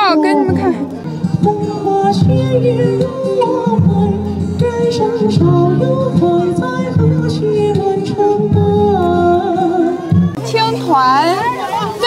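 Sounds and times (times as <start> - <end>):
person singing into a microphone: 0.0 - 10.5.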